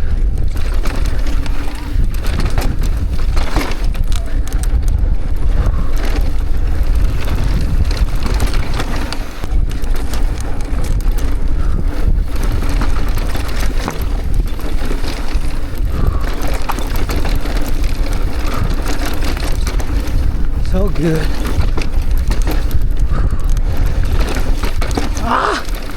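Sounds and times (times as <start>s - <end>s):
bike rattles and knocks: 0.0s - 25.9s
tyres on loose dirt: 0.0s - 25.9s
wind rumble on microphone: 0.0s - 25.9s.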